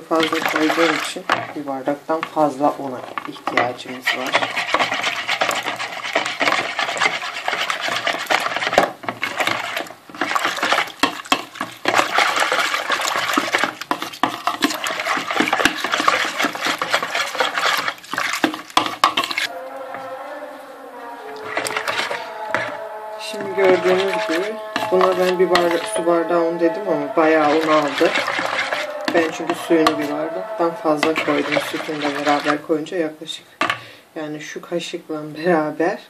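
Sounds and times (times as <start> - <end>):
wire whisk beating batter: 0.0 - 20.0, 21.3 - 33.8.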